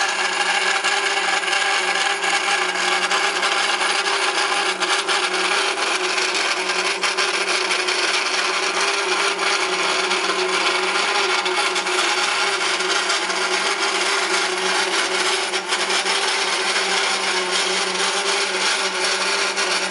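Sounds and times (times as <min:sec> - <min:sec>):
pin rubbing on spinning disc: 0:01.7 - 0:19.9.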